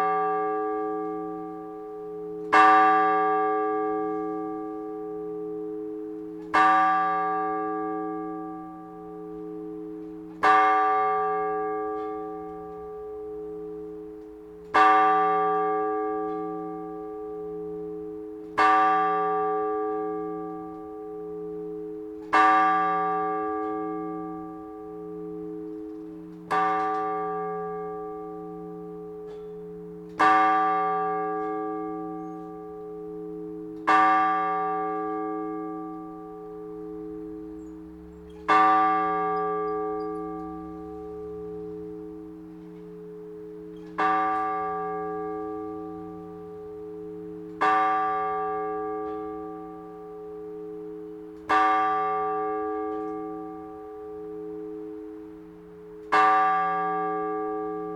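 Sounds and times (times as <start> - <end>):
large church bell ringing: 0.0 - 57.9.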